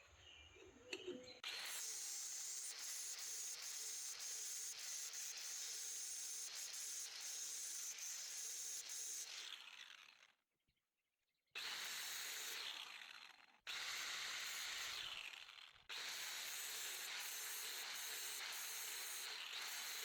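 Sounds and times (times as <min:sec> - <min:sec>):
power grinder grinding metal: 0:01.4 - 0:10.3, 0:11.6 - 0:20.0.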